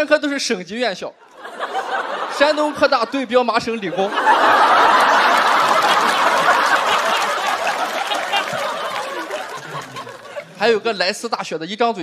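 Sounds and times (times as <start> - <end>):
audience laughing: 1.3 - 11.0.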